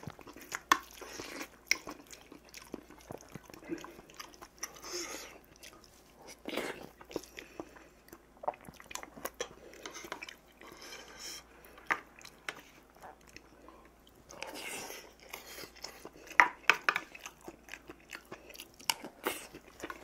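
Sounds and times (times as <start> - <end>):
man chewing with wet mouth sounds: 0.0 - 20.0.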